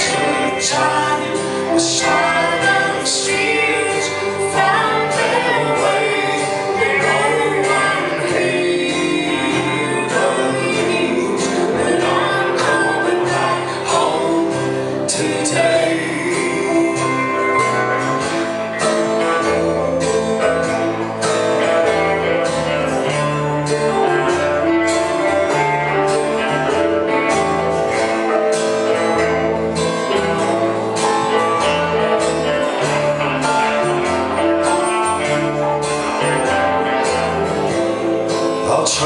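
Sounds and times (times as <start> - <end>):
bass line: 0.0 - 39.0
live band playing: 0.0 - 39.0
strummed and plucked guitar: 0.0 - 39.0.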